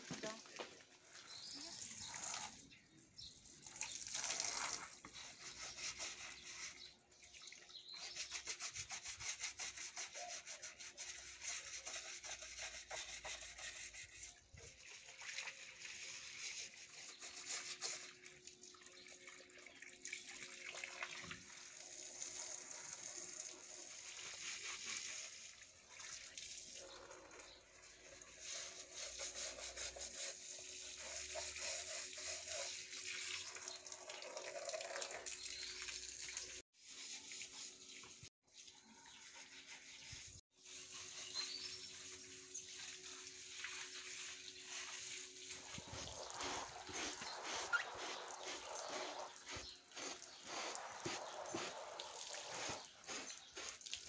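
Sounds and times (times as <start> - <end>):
stiff brush scrubbing wet surface: 0.0 - 18.6, 22.0 - 34.0, 34.8 - 54.0.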